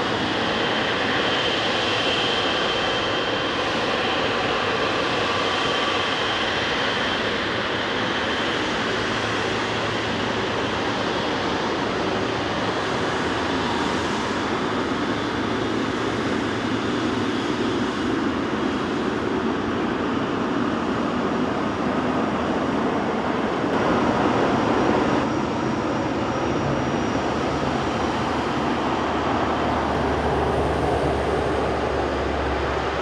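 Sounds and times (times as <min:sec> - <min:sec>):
jet engines rushing hum: 0:00.0 - 0:33.0.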